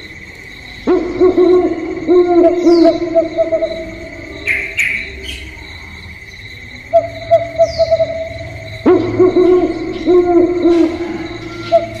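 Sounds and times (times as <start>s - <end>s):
doves cooing: 0.7s - 6.0s, 6.9s - 12.0s.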